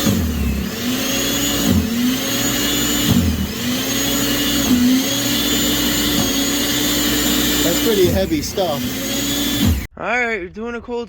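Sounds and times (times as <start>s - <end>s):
snow blower motor whining: 0.0s - 9.9s.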